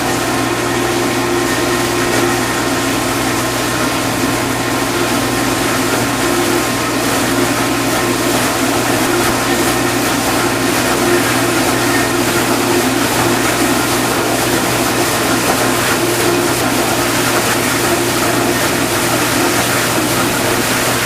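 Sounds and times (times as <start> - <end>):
dishwasher motor hum: 0.0 - 21.0
water spraying: 0.0 - 21.0.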